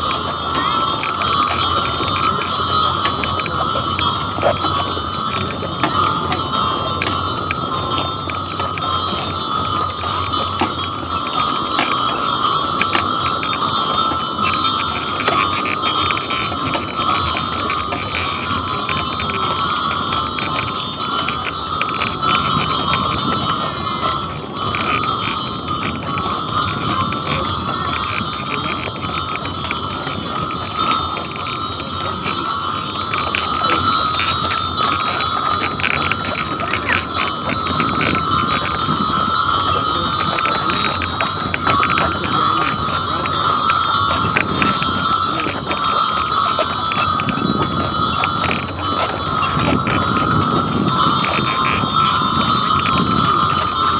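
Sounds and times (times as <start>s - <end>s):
harness bells jingling: 0.0s - 53.9s
hooves walking: 0.0s - 53.9s.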